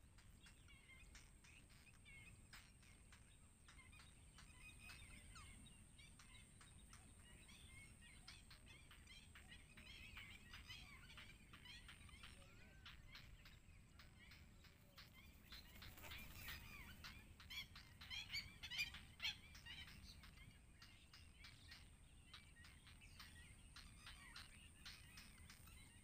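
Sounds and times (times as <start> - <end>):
heron chicks chattering: 0.0 - 26.0.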